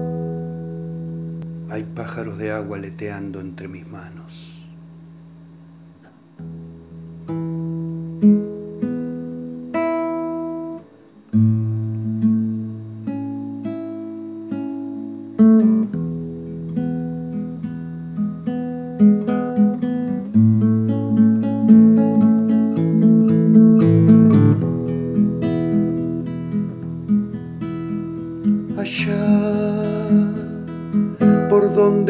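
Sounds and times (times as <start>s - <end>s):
classical acoustic guitar: 0.0s - 3.6s, 4.4s - 32.0s.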